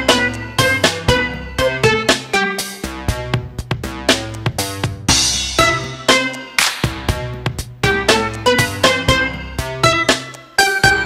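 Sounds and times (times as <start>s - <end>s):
electronic techno music: 0.0s - 11.0s.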